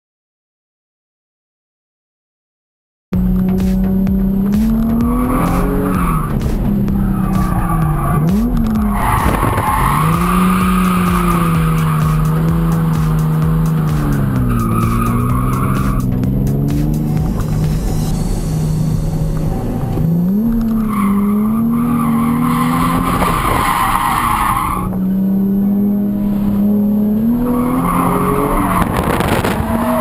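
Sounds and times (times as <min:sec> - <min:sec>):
car engine revving: 0:03.2 - 0:30.0
tires squealing: 0:03.2 - 0:30.0.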